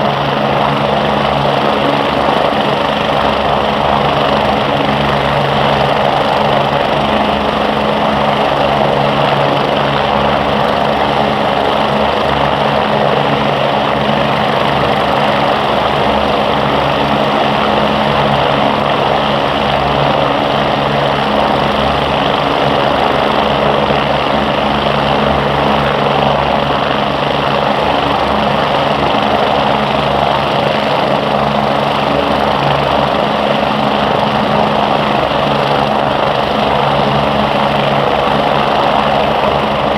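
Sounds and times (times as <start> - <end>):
helicopters running: 0.0 - 39.9.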